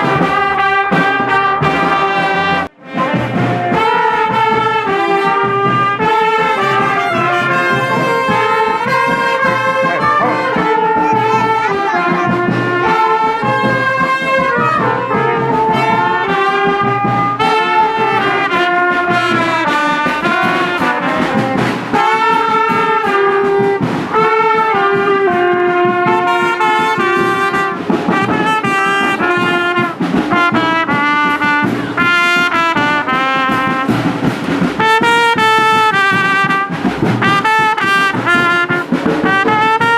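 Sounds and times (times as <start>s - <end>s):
brass horns playing: 0.0s - 39.9s
steady drum beat: 0.0s - 39.9s.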